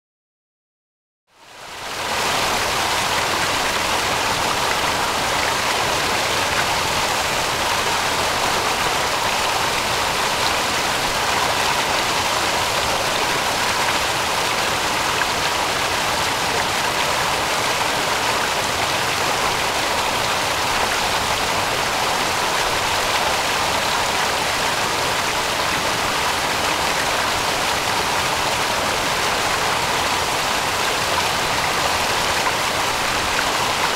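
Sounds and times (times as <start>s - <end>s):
stream water flowing: 1.4s - 33.9s.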